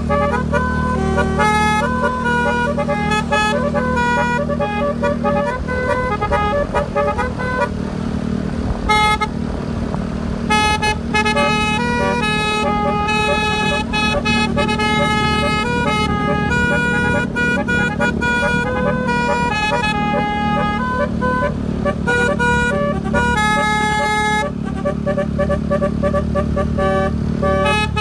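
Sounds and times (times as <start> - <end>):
short horn blast: 0.0 - 7.8, 10.5 - 28.0
musical horn playing a tune: 0.0 - 7.9, 8.8 - 9.4, 10.5 - 28.0.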